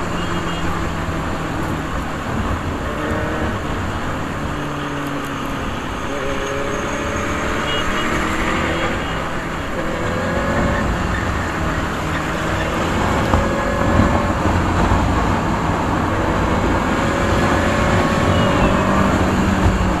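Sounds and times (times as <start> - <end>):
road traffic noise: 0.0 - 20.0
motorcycle engine accelerating: 0.8 - 20.0.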